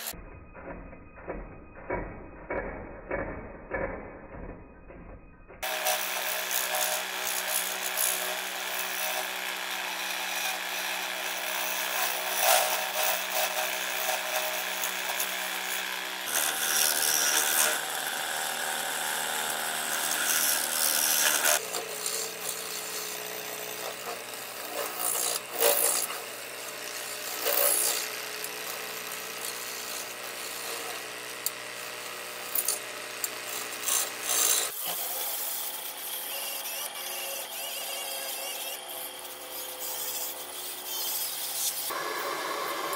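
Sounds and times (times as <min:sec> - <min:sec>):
lathe motor hum: 0:05.6 - 0:42.9.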